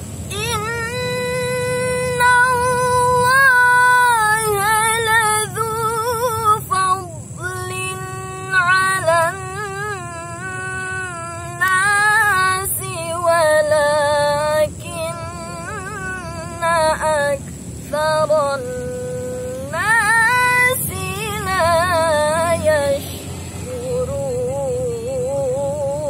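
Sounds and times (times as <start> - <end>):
woman reciting melodically: 0.0 - 26.0.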